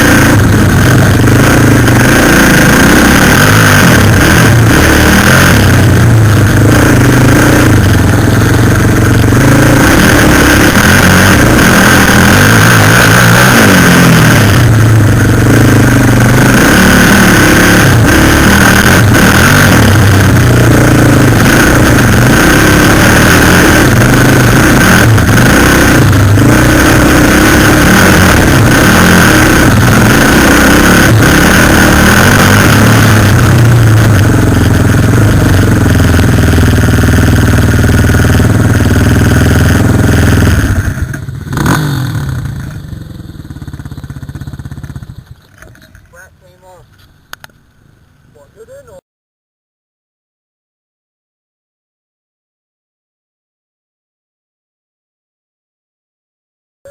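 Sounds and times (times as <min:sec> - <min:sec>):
quad bike engine revving: 0:00.0 - 0:47.0.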